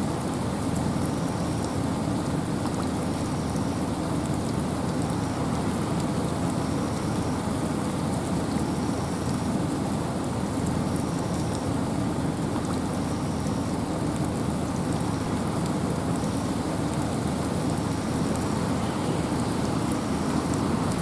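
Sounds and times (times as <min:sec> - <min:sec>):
wind and rain rushing: 0:00.0 - 0:21.0.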